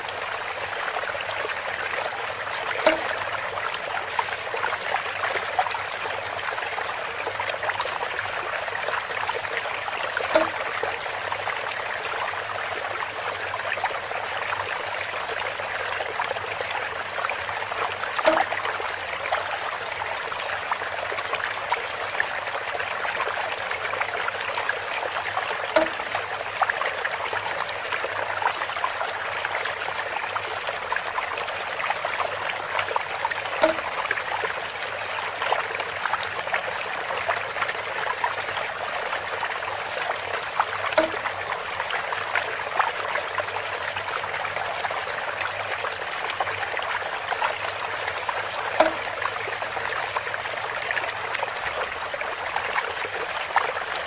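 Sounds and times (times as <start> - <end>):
water trickling through bamboo spout: 0.0 - 54.0.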